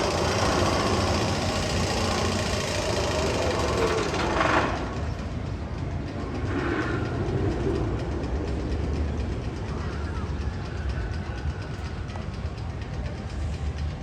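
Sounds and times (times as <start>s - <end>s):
roller coaster rumbling on track: 0.0s - 14.0s.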